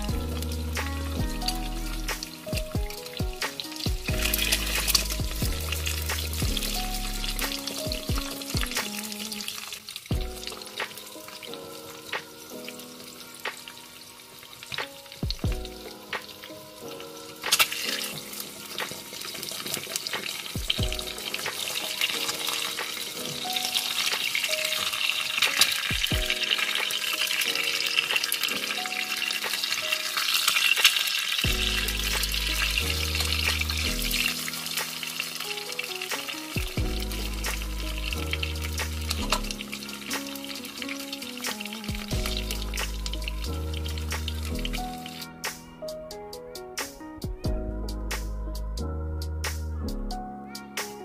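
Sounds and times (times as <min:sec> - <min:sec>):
egg sizzling in oil: 0:00.0 - 0:45.3.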